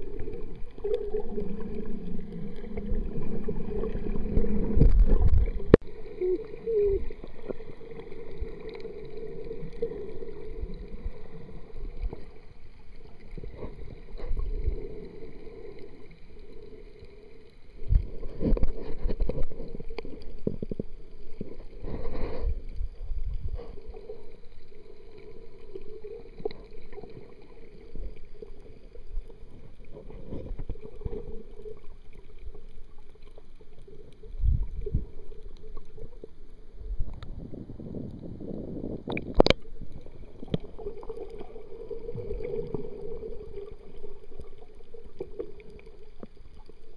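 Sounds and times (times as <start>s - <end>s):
water splashing: 0.0s - 37.2s, 38.8s - 46.9s
muffled underwater sloshing: 0.0s - 46.9s.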